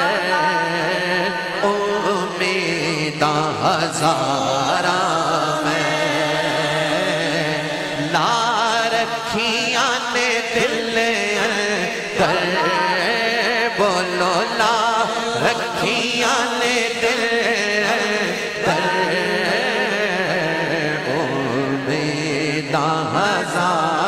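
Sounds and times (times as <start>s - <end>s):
person singing with vibrato: 0.0s - 24.0s.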